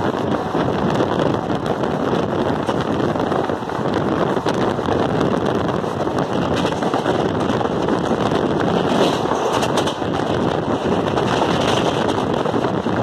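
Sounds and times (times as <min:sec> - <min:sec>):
passenger train running: 0:00.0 - 0:13.0
wind on microphone: 0:00.0 - 0:13.0.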